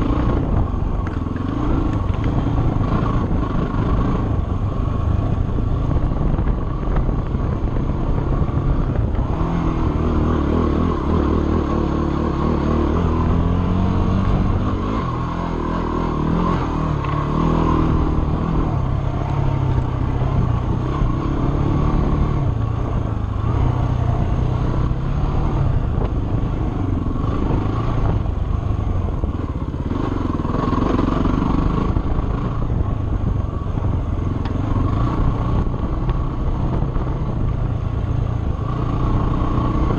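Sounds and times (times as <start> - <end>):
dirt bike engine running hard: 0.0 - 39.9.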